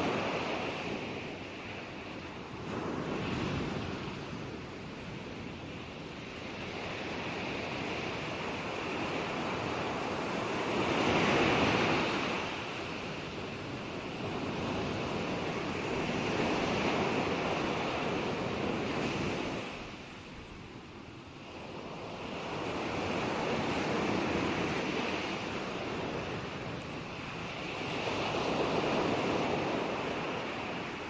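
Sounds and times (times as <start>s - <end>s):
ocean waves breaking on shore: 0.0s - 31.0s.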